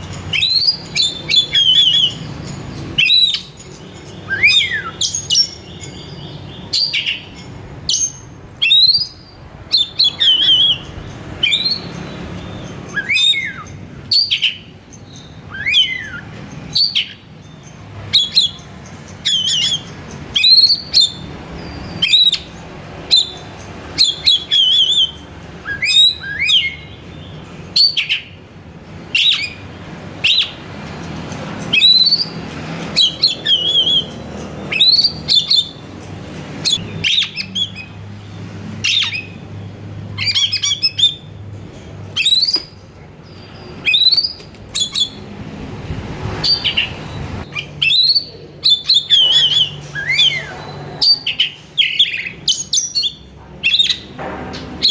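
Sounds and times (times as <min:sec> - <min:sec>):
bird singing whistled notes: 0:00.0 - 0:18.6, 0:19.2 - 0:23.4, 0:24.0 - 0:28.4, 0:29.2 - 0:30.6, 0:31.7 - 0:32.4, 0:33.0 - 0:35.8, 0:36.6 - 0:38.0, 0:38.8 - 0:39.5, 0:40.2 - 0:41.3, 0:42.2 - 0:45.2, 0:46.4 - 0:54.0.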